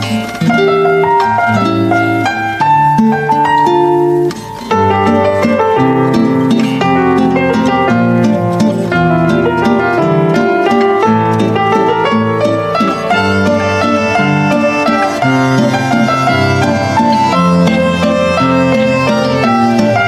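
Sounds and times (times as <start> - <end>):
instrumental music with plucked strings: 0.0 - 20.0.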